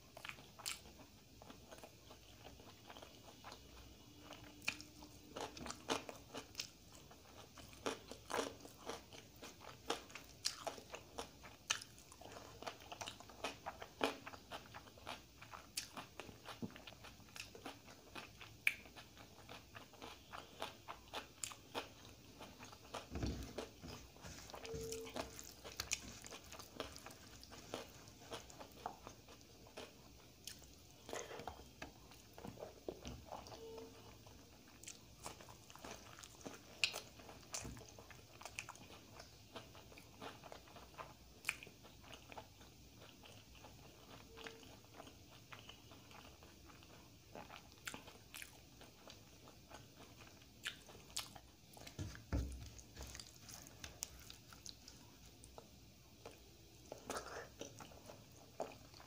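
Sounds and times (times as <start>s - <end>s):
wet chewing and crunching: 0.0s - 59.0s.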